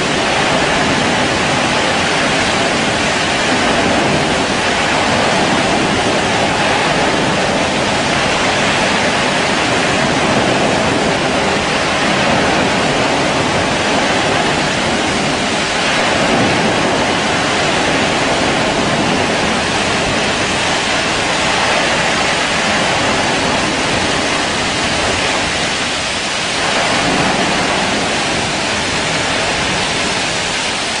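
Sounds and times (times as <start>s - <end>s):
fire roaring: 0.0s - 31.0s.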